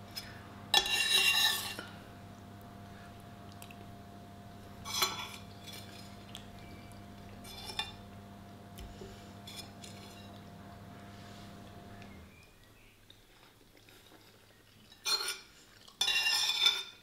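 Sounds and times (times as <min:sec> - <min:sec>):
faint steady hum: 0:00.0 - 0:16.2.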